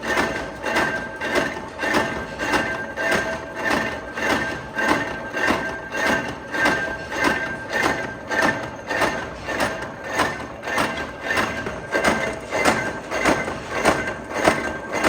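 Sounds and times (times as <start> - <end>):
factory machinery knocking: 0.0 - 15.0.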